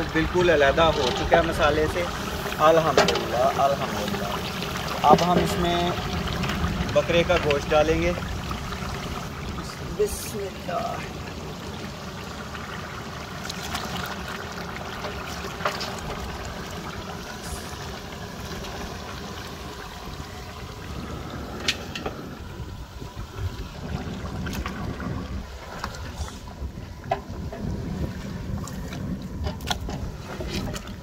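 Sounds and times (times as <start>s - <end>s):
wind rumble on microphone: 0.0s - 11.8s, 15.2s - 31.0s.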